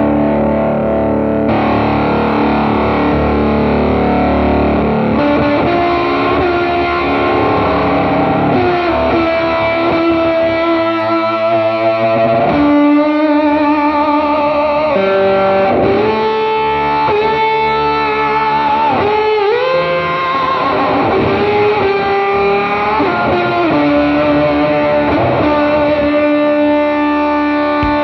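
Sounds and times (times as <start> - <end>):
distorted electric guitar lead: 0.0 - 28.0.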